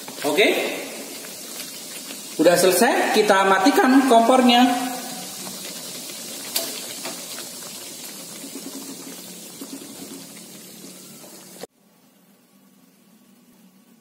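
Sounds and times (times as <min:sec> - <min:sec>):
sauce bubbling in a frying pan: 0:00.0 - 0:14.0.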